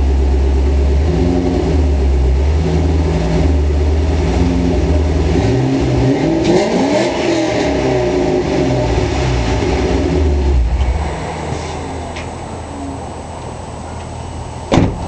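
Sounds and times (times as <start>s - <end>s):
raspy car exhaust revving: 0.0s - 15.0s.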